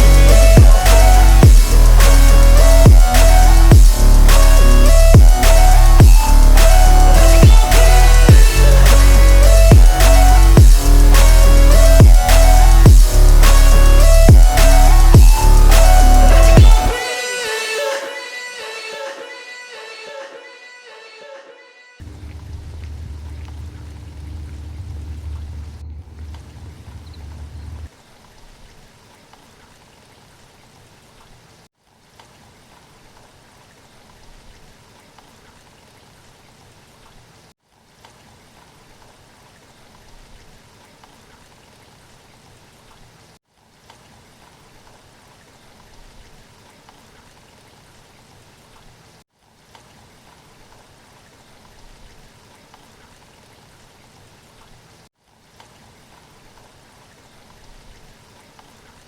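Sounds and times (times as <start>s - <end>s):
steady rain falling: 0.0s - 17.6s, 22.0s - 59.0s.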